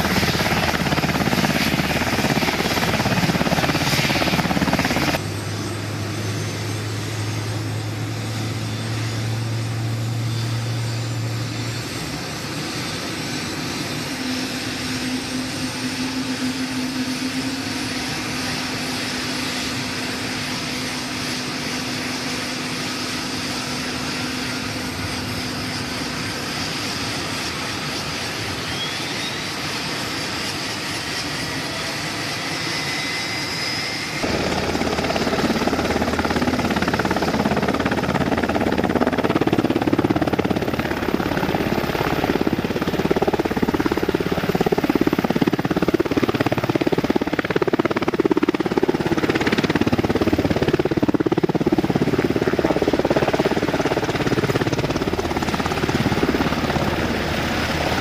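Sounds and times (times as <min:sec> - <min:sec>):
helicopter engines whining: 0:00.0 - 0:58.0.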